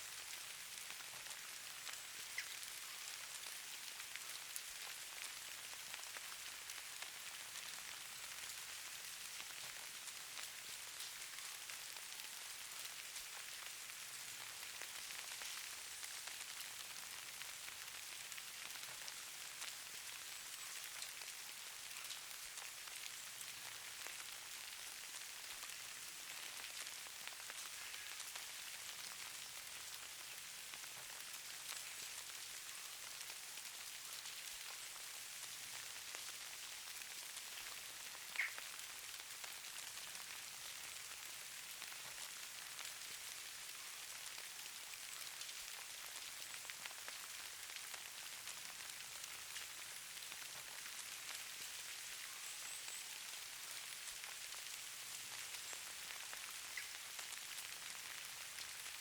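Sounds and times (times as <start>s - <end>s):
pattering precipitation hiss: 0.0s - 59.0s.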